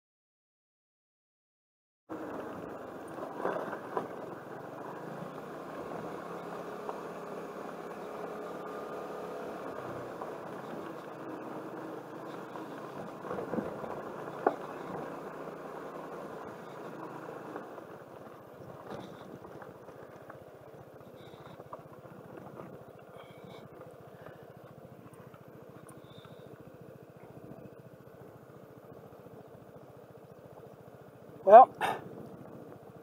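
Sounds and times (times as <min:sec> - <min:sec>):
scooter engine running: 0:02.1 - 0:33.0.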